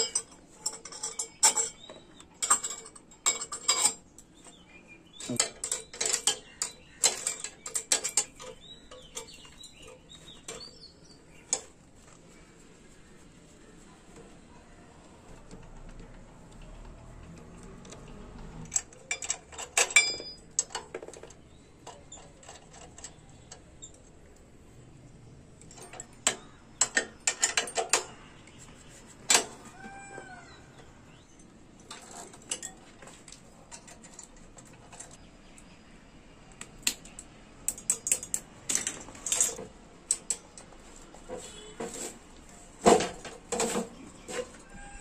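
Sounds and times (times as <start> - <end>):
metal tools and parts clattering: 0.0 - 11.9, 17.5 - 24.4, 25.6 - 30.1, 30.7 - 35.8, 37.1 - 45.0.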